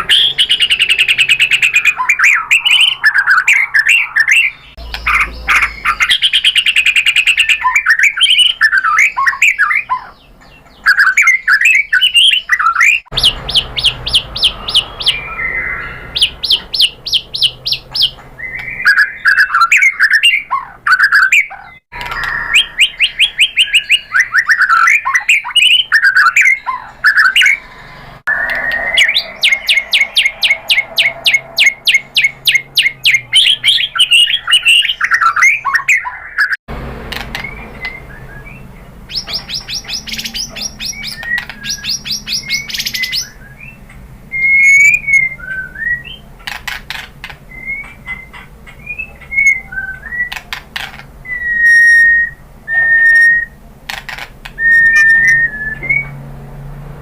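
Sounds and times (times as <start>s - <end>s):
bird singing varied song: 0.0s - 36.6s, 37.2s - 56.2s.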